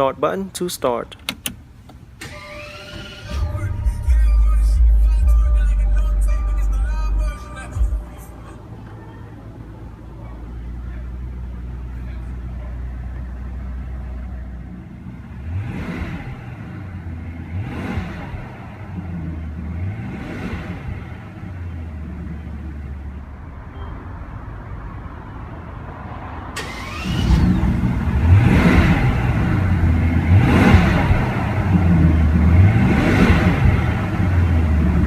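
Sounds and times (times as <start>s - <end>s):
car engine revving: 2.2s - 8.9s, 9.7s - 24.4s, 25.9s - 35.0s.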